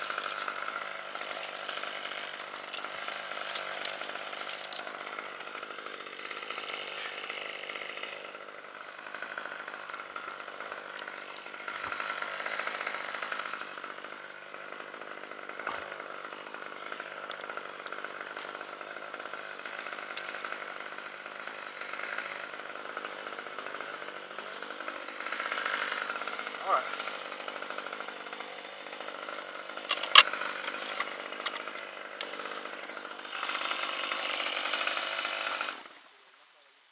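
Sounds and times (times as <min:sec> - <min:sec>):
chainsaw running: 0:00.0 - 0:36.2.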